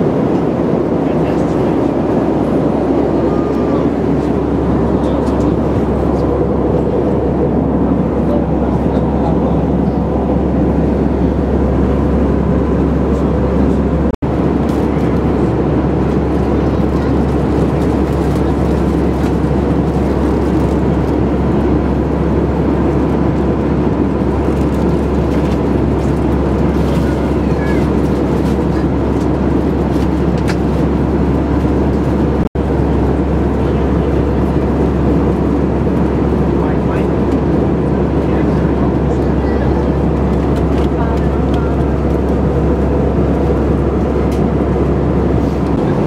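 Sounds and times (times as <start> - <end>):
airliner cabin engine and airflow noise: 0.0 - 46.0.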